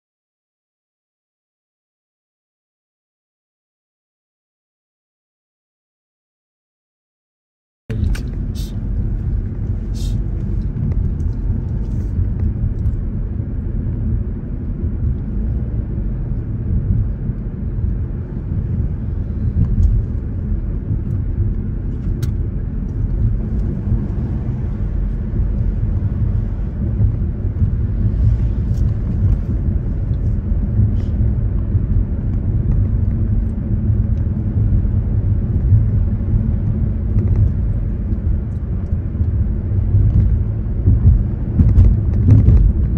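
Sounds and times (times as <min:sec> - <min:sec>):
road and engine rumble: 0:07.9 - 0:42.9.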